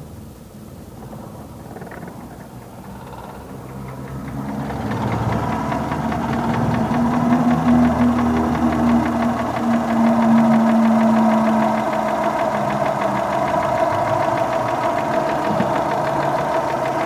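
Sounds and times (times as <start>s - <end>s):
car engine knocking: 1.8s - 17.0s.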